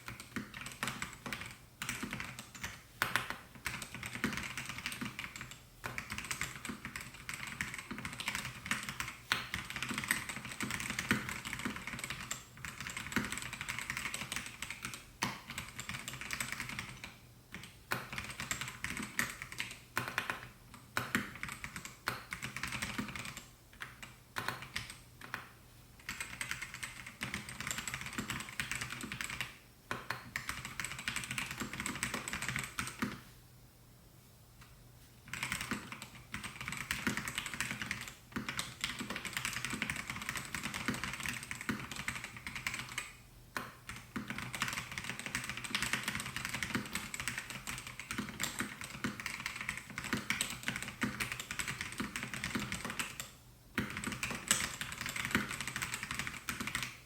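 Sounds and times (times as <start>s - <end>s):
mechanical keyboard typing: 0.0s - 25.4s, 26.0s - 33.2s, 35.3s - 57.0s.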